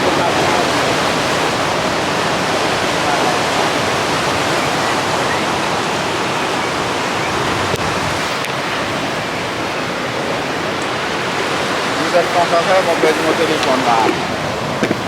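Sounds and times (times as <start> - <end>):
road noise: 0.0 - 15.0
rushing wind: 0.0 - 15.0.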